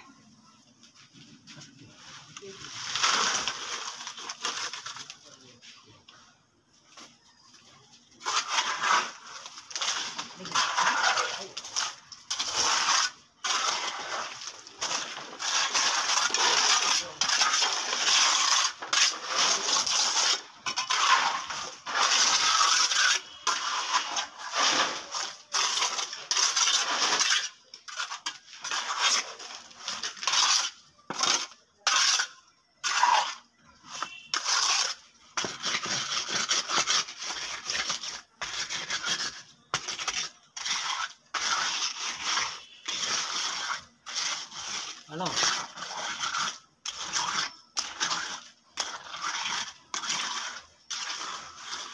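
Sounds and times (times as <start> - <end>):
trowel scraping wet concrete: 1.0 - 6.2, 7.0 - 51.9.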